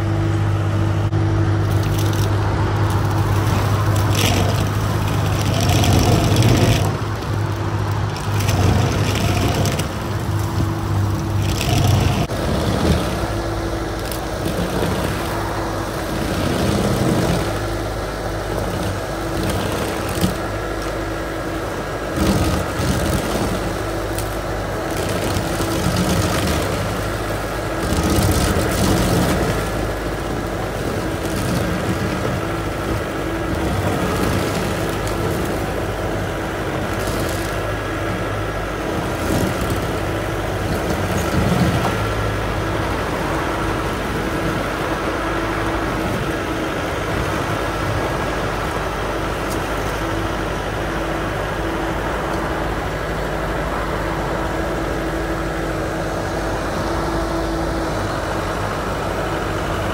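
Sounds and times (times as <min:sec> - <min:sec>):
stump grinder grinding wood: 0:00.0 - 0:59.9.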